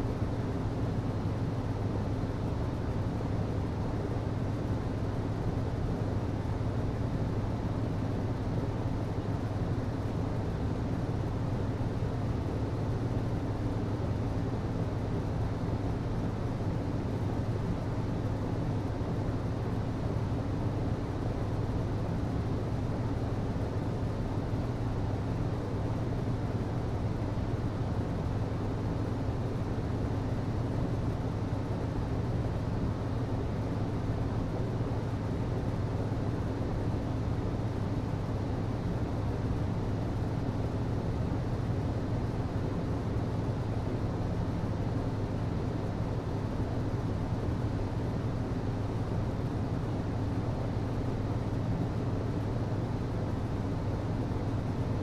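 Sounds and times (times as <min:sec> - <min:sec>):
air conditioning hum and airflow: 0:00.0 - 0:55.0.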